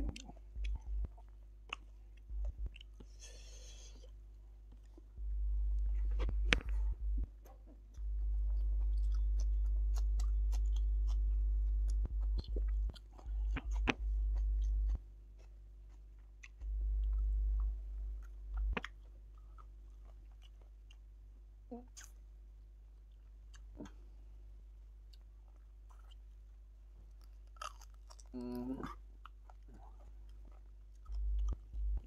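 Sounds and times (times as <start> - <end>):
person chewing food: 0.0 - 21.2, 23.0 - 24.2, 25.0 - 32.0
deep low hum: 0.0 - 27.2, 28.0 - 32.0.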